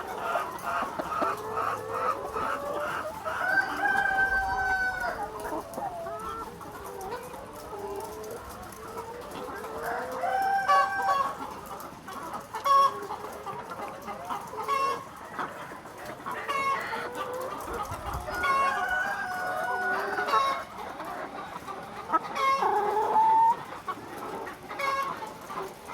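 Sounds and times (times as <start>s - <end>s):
chickens clucking: 0.0s - 25.9s.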